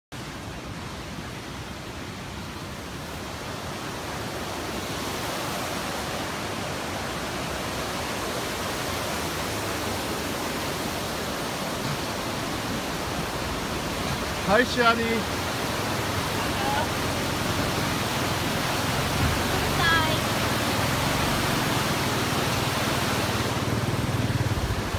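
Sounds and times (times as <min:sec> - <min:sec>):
water rushing: 0:00.1 - 0:24.9.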